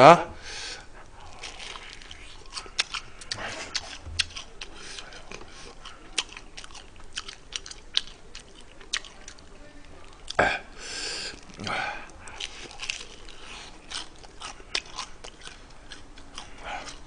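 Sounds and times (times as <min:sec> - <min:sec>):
crunchy chewing: 0:01.0 - 0:10.4, 0:11.0 - 0:17.0.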